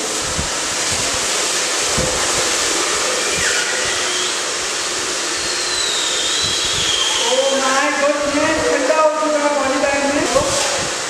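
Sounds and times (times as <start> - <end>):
hair dryer rushing air: 0.0 - 11.0
faint high whine: 1.8 - 11.0.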